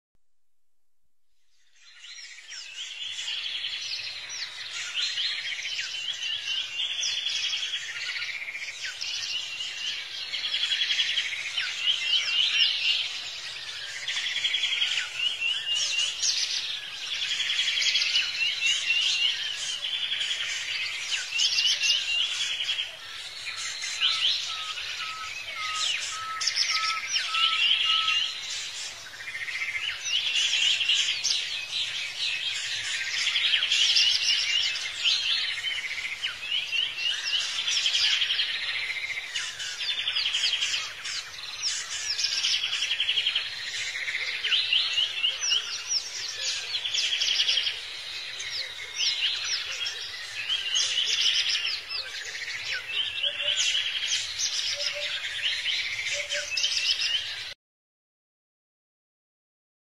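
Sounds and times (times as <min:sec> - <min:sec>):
wild birds singing: 0:01.5 - 0:57.6.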